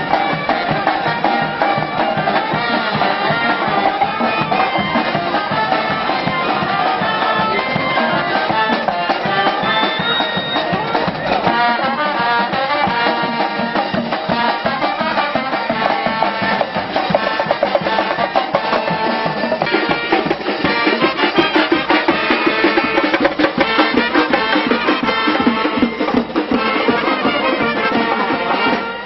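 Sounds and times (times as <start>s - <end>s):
marching brass band playing: 0.0s - 29.0s.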